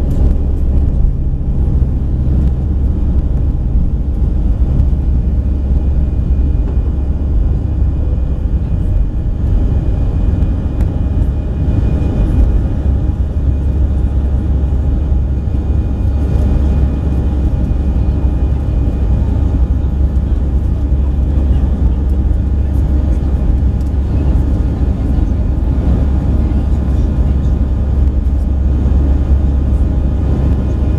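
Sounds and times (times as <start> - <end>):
jet engines low rumble: 0.0 - 30.9.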